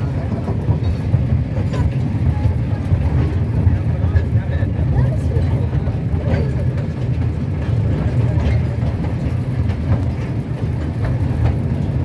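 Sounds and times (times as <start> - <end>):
ride train rumbling on track: 0.0 - 12.0.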